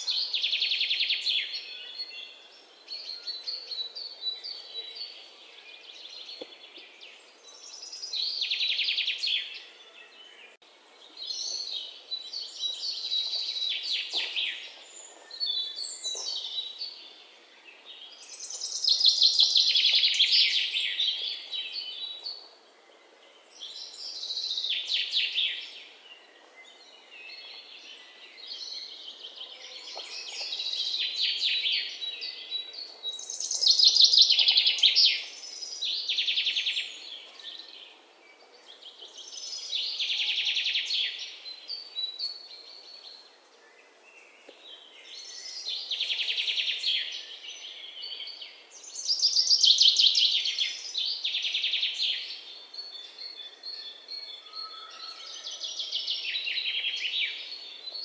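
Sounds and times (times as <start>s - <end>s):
faint outdoor hiss: 0.0s - 54.5s.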